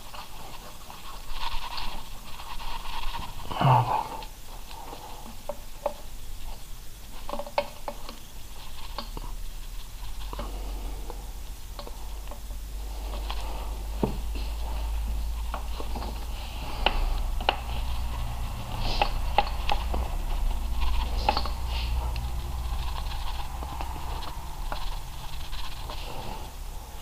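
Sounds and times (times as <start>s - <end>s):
rubber hoses clicking and rubbing: 0.0s - 27.0s
steady low hum: 0.0s - 27.0s.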